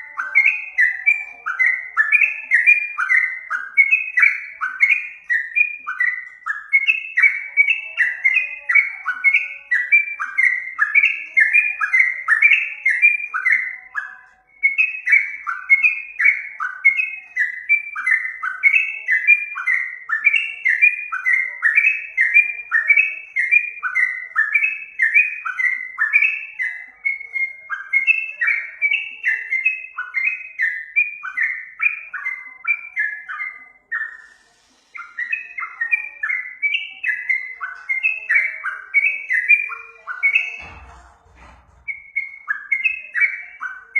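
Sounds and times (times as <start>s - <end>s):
bird singing whistled notes: 0.0s - 43.9s.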